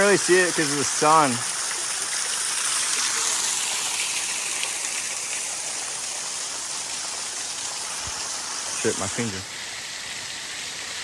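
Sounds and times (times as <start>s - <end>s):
waterfall: 0.0s - 11.0s.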